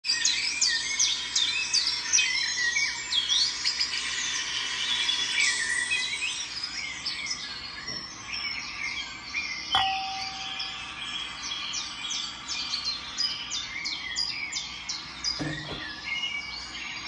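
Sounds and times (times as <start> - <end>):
birds chirping and singing: 0.1 - 17.0.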